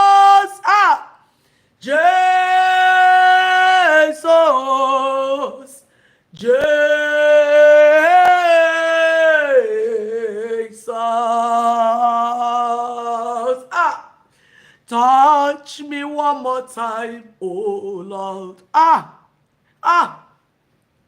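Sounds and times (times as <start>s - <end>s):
person singing unaccompanied: 0.0s - 1.2s, 1.8s - 14.2s, 14.9s - 20.3s.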